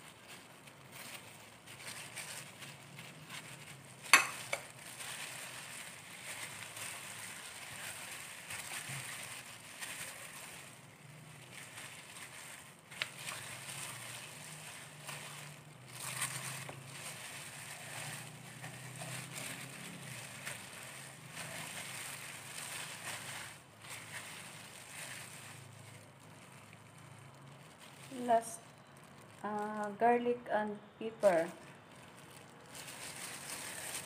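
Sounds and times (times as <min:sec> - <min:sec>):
wet squishing: 0:00.0 - 0:29.7, 0:31.4 - 0:34.0
plastic gloves crinkling: 0:00.0 - 0:34.0.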